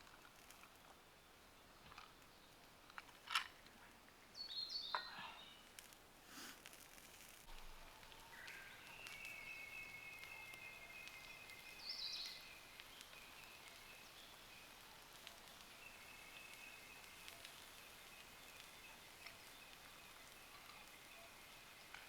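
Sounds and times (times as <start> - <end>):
faint outdoor ambience: 0.0 - 22.0.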